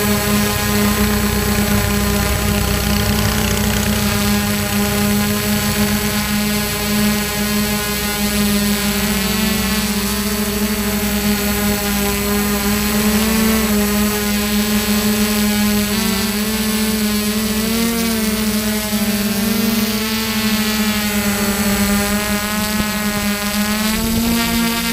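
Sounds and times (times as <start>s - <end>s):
drone motors whining: 0.0s - 24.9s.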